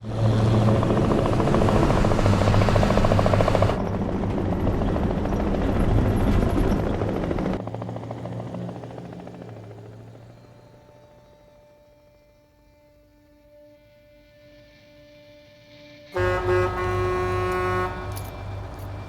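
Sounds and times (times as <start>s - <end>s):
helicopter rotor chop and engine: 0.0s - 13.8s, 16.2s - 19.0s.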